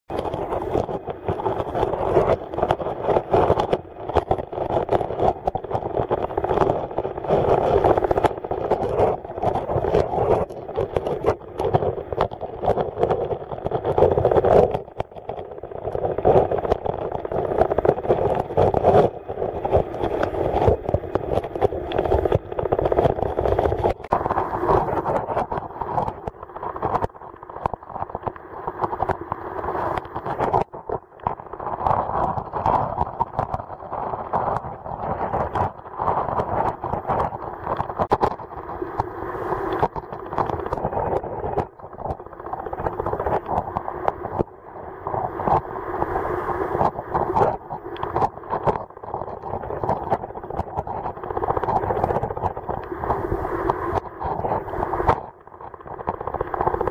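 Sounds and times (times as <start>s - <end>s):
muffled underwater stream rushing: 0.1s - 56.9s.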